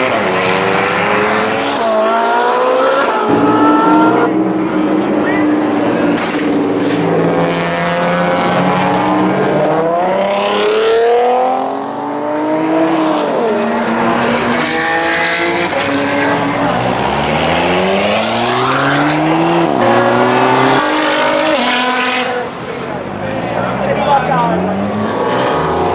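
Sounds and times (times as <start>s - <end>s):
car engine accelerating: 0.0s - 25.9s.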